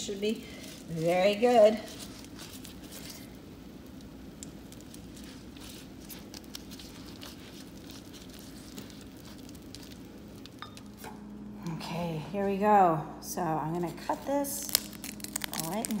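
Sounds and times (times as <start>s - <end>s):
butter crackling on hot pastry: 0.0s - 11.3s, 13.9s - 16.0s.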